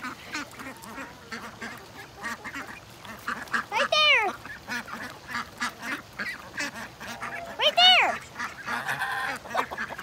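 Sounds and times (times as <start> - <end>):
ducks quacking: 0.0 - 10.0
goose honk: 0.0 - 10.0.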